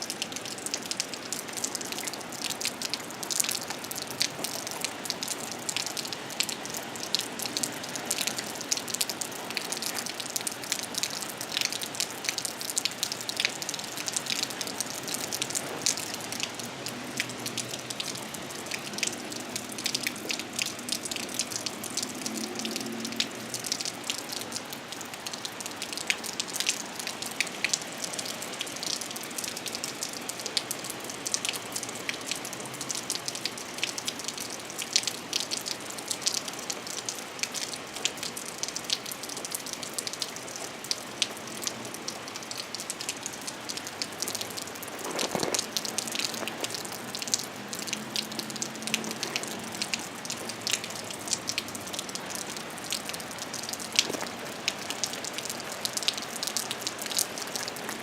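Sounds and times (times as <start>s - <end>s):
raindrops ticking on surface: 0.0s - 58.0s
steady rain falling: 0.0s - 58.0s.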